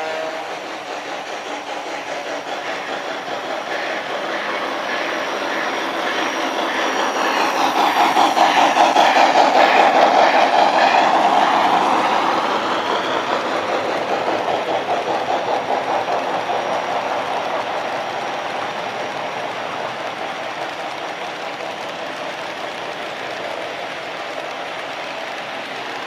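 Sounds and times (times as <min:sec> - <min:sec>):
model train wheels clicking: 0:00.0 - 0:26.0.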